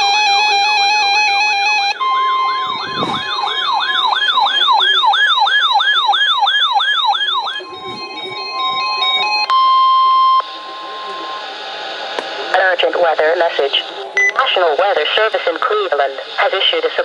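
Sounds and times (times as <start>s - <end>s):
electronic siren yelping: 0.0s - 14.4s.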